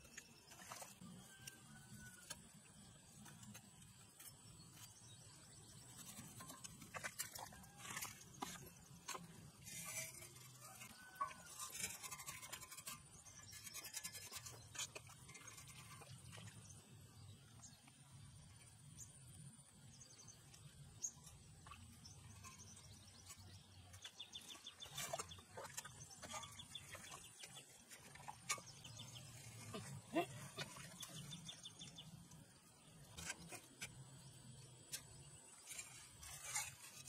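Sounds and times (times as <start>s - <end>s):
scraping wet mud by hand: 0.1s - 16.8s, 21.2s - 37.0s.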